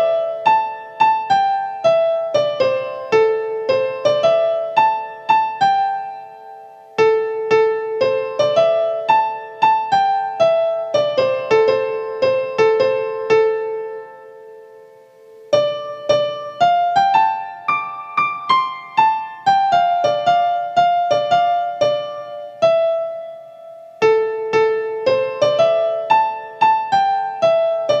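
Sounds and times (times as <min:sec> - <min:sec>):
slow piano melody: 0:00.0 - 0:28.0.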